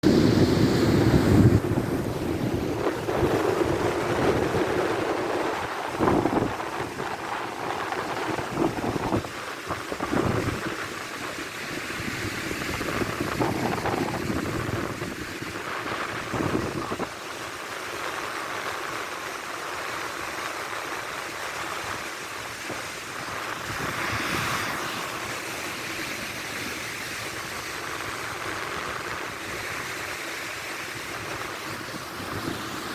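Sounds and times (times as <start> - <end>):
sea surf washing in: 0.0 - 32.9
wind buffeting microphone: 0.0 - 32.9.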